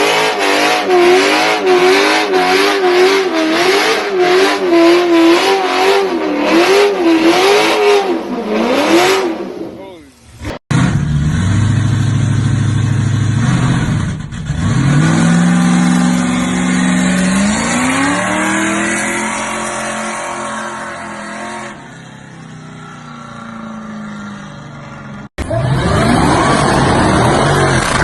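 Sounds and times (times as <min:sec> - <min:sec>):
car engine accelerating hard: 0:00.0 - 0:09.8, 0:10.4 - 0:28.0.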